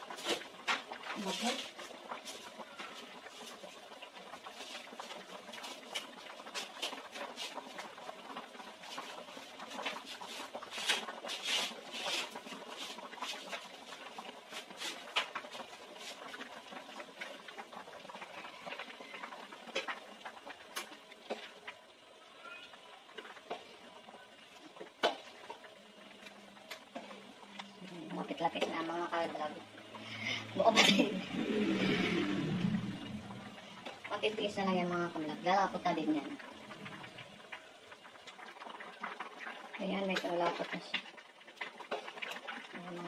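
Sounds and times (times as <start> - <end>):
soup boiling and bubbling: 0.0 - 43.0.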